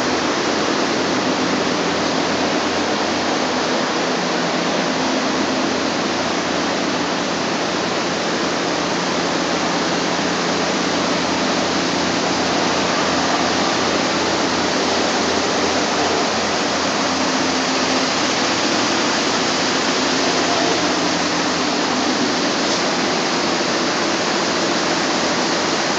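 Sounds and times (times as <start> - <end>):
loud steady rushing noise: 0.0 - 25.9.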